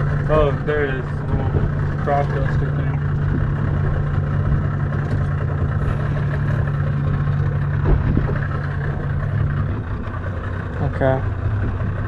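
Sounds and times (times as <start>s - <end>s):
boat engines idling: 0.0s - 12.0s.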